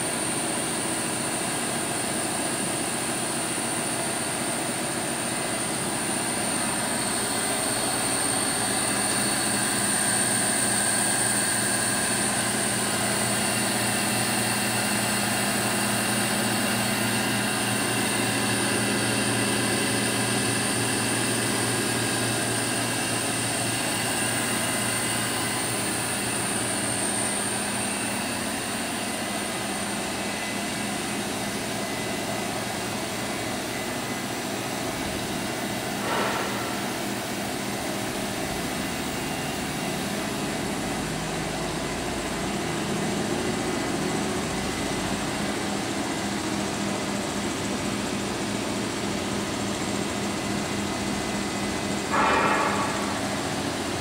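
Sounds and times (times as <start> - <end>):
machine hum with high whine: 0.0 - 54.0.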